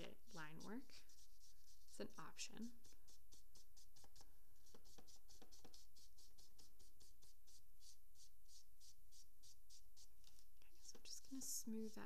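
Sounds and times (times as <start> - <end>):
charcoal scratching on paper: 0.0 - 12.0.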